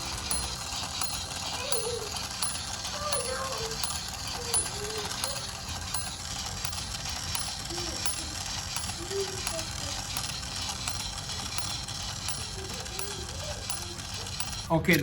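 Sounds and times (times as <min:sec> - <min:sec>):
toy train gears whirring and clicking: 0:00.0 - 0:15.0.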